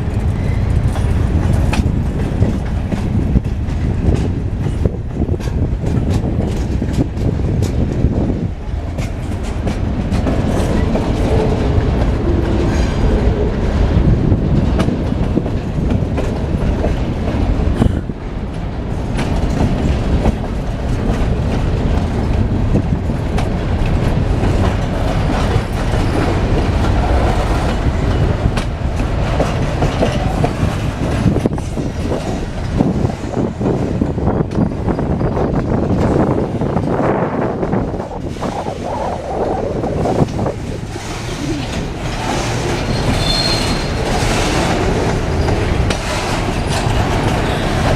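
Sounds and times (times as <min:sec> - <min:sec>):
wheels clicking over rail joints: 0:00.0 - 0:37.0, 0:39.8 - 0:47.9
train rumbling past: 0:00.0 - 0:47.9.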